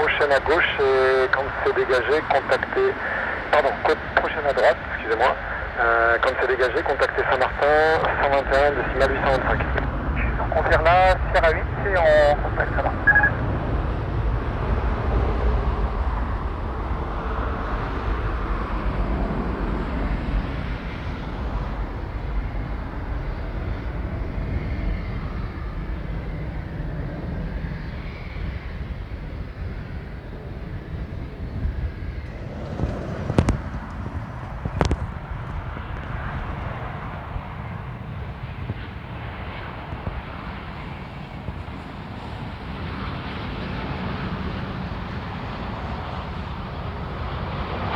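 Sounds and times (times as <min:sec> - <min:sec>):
jet engines rumbling: 0:00.0 - 0:47.9.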